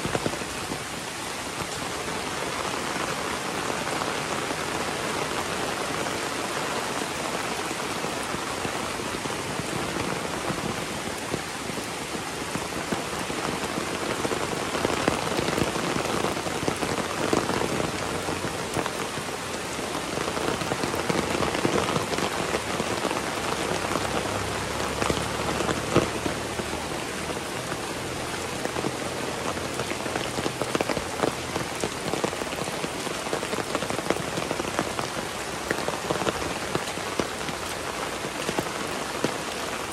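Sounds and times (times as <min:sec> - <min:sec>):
heavy rain: 0:00.0 - 0:39.9
close raindrop hits: 0:01.6 - 0:39.9.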